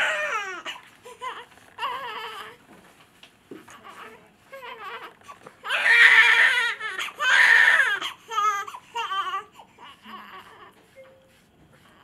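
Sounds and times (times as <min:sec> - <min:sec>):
newborn baby crying: 0:00.0 - 0:02.6, 0:03.6 - 0:10.8.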